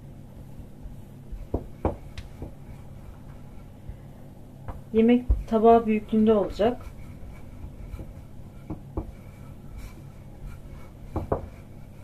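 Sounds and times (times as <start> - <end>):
rolling pin rubbing dough: 0.4 - 3.9, 4.9 - 12.0.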